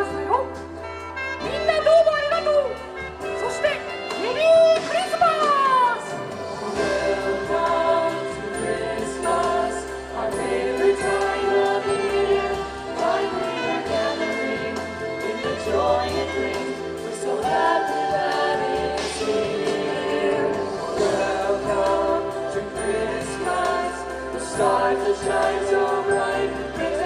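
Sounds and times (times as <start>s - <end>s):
choir singing over backing track: 4.8s - 27.0s.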